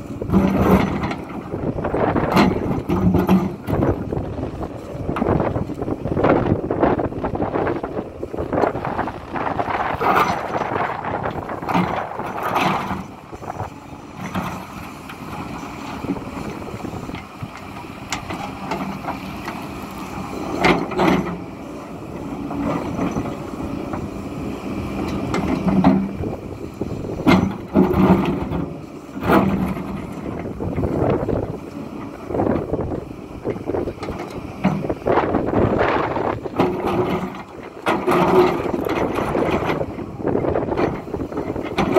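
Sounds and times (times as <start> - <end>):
excavator engine hum: 0.0 - 41.9.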